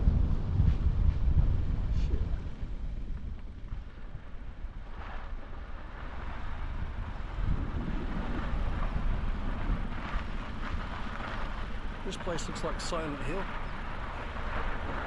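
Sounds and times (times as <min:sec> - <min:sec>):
steady low rumble: 0:00.0 - 0:15.0
wind noise on microphone: 0:00.0 - 0:15.0.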